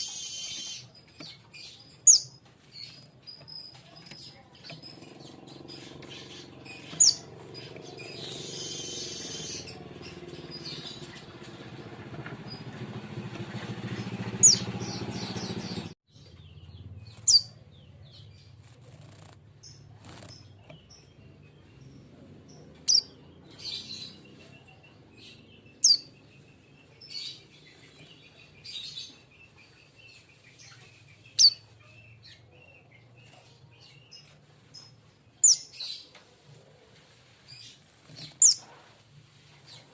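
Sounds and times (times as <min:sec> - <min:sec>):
bird chirping: 0:00.0 - 0:36.5, 0:37.4 - 0:39.9.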